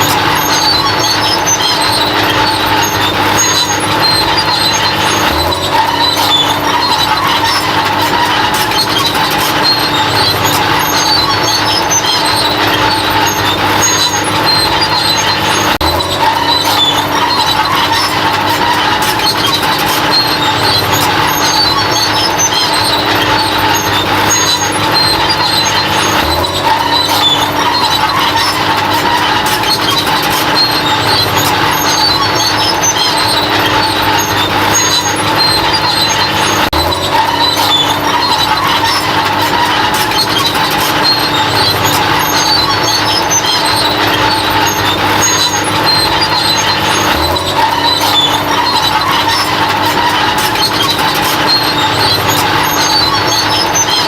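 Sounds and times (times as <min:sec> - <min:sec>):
bulldozer engine drone: 0:00.0 - 0:54.0
held whine: 0:00.0 - 0:54.0
short high squeaks: 0:00.0 - 0:54.0.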